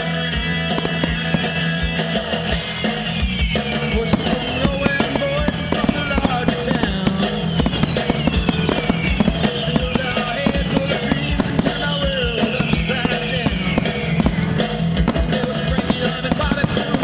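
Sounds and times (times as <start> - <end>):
fireworks bangs and crackles: 0.0 - 17.0
loud music: 0.0 - 17.0.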